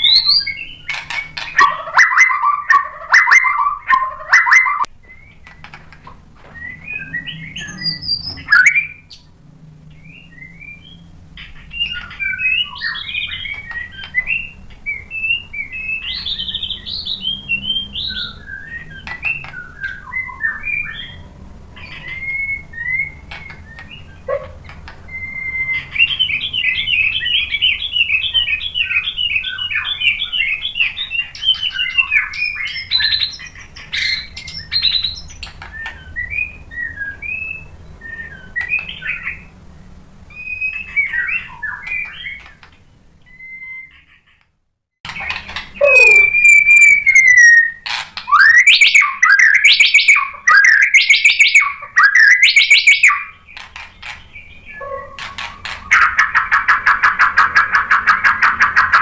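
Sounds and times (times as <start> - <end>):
songbird whistling song: 0.0 - 39.5, 40.3 - 44.4, 45.1 - 59.0.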